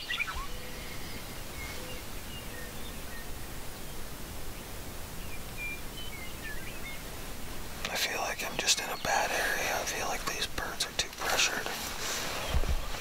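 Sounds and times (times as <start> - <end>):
faint bird chirps: 0.0 - 11.7
steady woodland hiss: 0.0 - 13.0.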